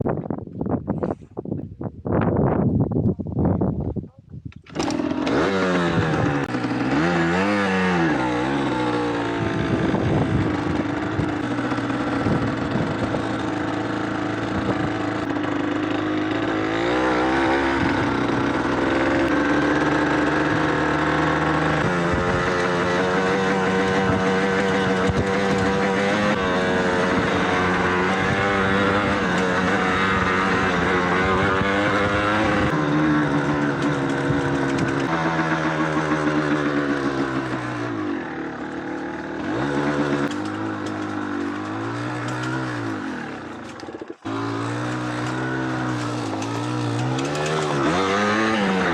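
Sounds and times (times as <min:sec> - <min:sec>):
two-stroke motorcycle engine revving: 0:04.6 - 0:48.9.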